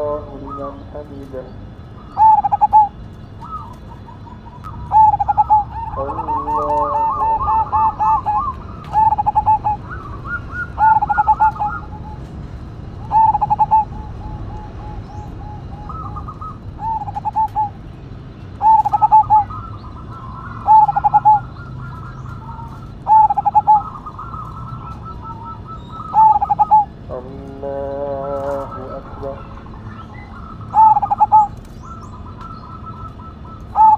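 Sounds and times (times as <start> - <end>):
dove cooing trills: 0.0 - 33.9.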